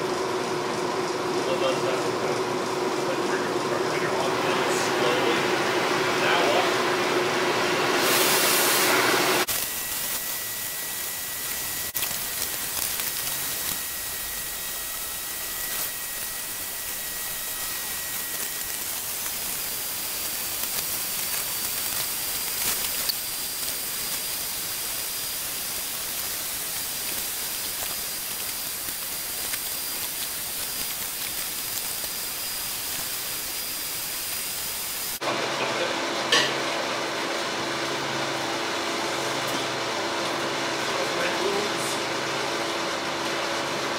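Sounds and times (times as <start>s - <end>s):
torch flame hissing: 3.3s - 43.8s.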